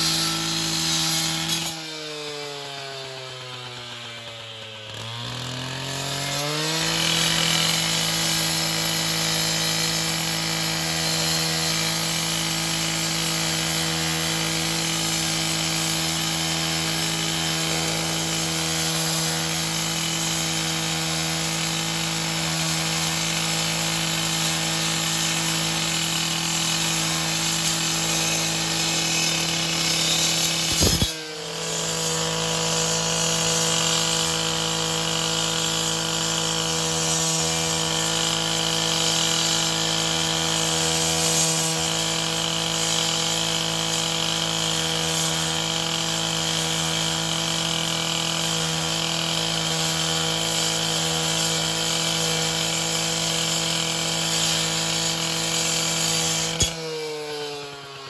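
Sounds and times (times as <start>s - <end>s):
cut-off saw grinding concrete: 0.0s - 58.0s.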